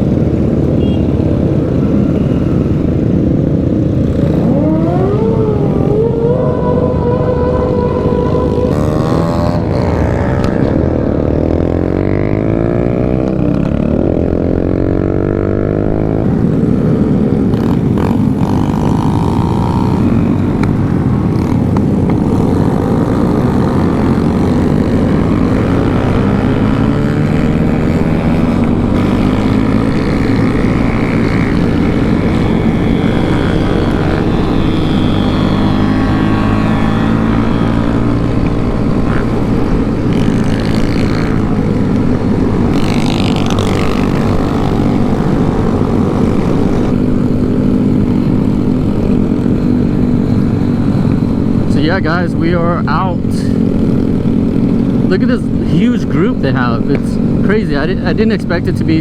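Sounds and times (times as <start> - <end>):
small motorcycle engines revving: 0.0 - 59.0.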